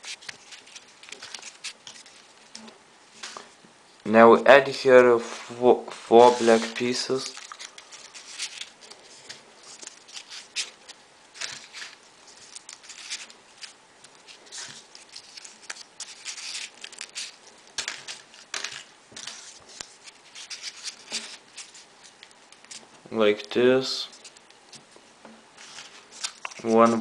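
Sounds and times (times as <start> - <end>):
paper rustling and scraping: 0.0 - 3.6, 5.2 - 22.8, 25.6 - 27.0.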